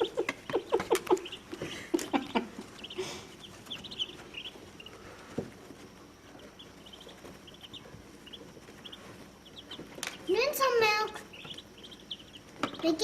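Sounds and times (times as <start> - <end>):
ducklings peeping: 0.0 - 13.0.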